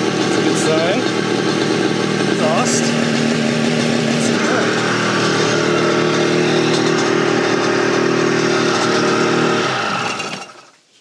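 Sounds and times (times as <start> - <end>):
two-stroke engine running: 0.0 - 10.8.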